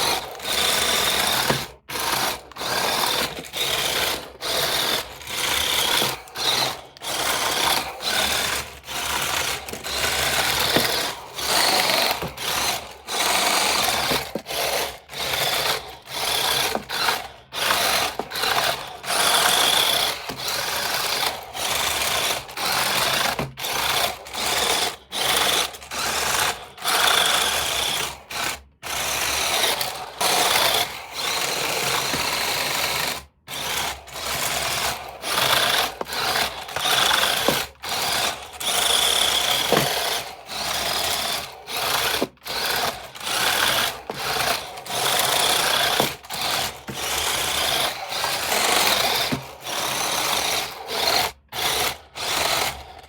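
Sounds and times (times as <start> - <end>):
toy electric motor whirring: 0.0 - 53.0.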